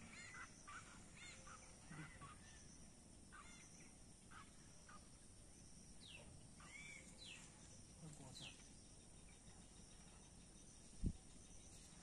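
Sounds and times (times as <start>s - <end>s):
faint birdsong: 0.0s - 12.0s
steady faint hiss: 0.0s - 12.0s.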